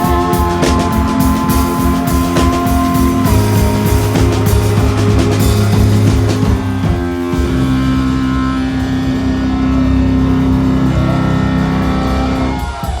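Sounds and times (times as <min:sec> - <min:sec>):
distorted guitar chord ringing: 0:00.0 - 0:12.5
rock band drumming: 0:00.0 - 0:13.0.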